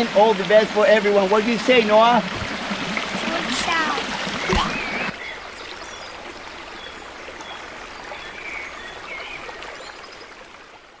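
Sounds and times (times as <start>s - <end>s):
waterfall rushing and splashing: 0.0s - 9.5s.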